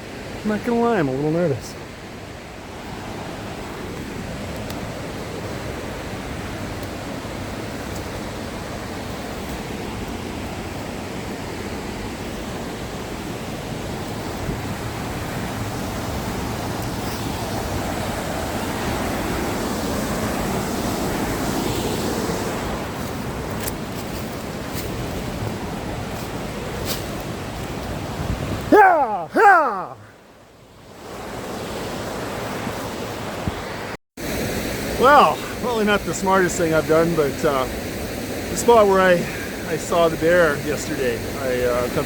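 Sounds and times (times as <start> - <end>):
waterfall rushing: 2.9 - 30.0, 34.2 - 42.0.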